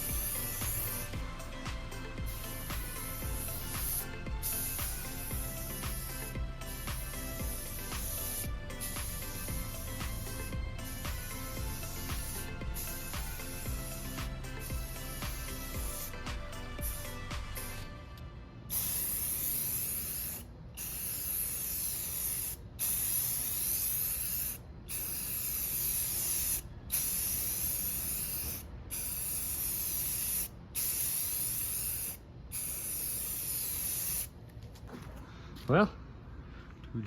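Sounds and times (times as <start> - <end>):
spray paint hissing: 0.0 - 17.9, 18.7 - 34.4.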